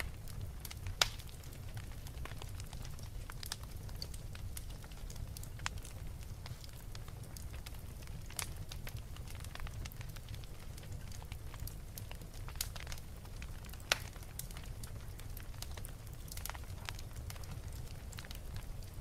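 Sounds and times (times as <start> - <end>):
fire pops and snaps: 0.0 - 19.0
low fire rumble: 0.0 - 19.0.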